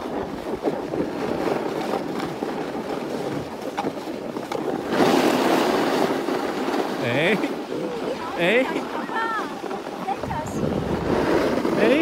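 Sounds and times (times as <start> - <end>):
skis scraping over snow: 0.0 - 12.0
wind on microphone: 0.0 - 12.0.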